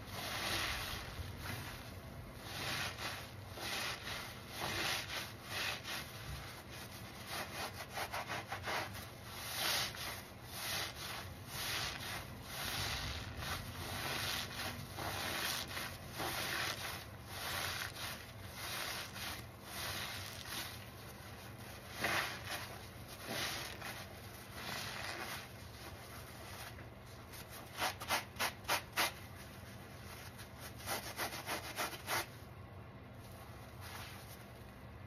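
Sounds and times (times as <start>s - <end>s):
sponges squishing in soap suds: 0.0s - 32.4s, 33.2s - 34.7s
sponge squelches: 0.0s - 32.5s, 33.1s - 34.8s.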